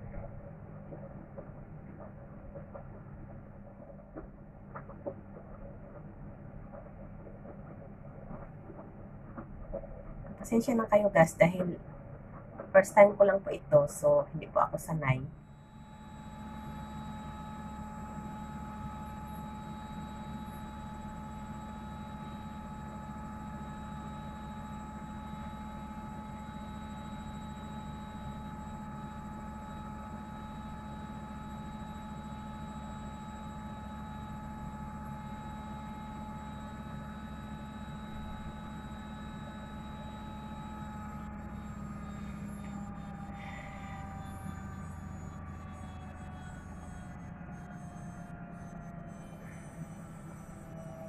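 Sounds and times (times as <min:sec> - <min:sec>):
constant whining tones: 0:00.0 - 0:51.0
steady hum: 0:00.0 - 0:51.0.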